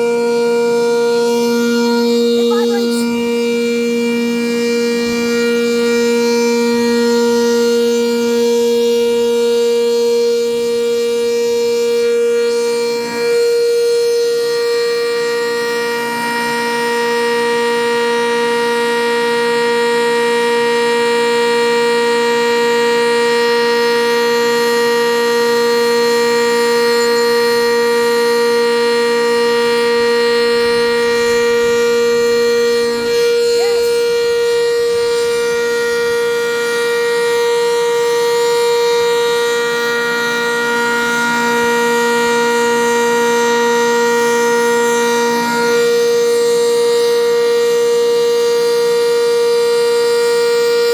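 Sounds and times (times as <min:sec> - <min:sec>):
warning siren steady tone: 0:00.0 - 0:50.9.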